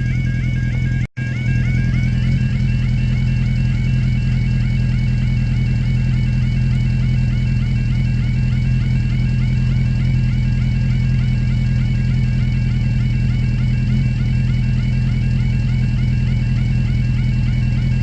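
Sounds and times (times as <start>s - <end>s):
level crossing alarm warbling: 0.0s - 18.0s
steady low hum: 0.0s - 18.0s.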